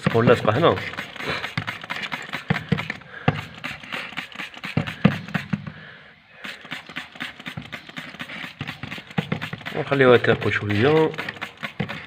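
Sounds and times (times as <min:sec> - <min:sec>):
hands clicking and scraping on brakes: 0:00.0 - 0:05.8, 0:06.4 - 0:12.0
short hiss: 0:00.7 - 0:12.0.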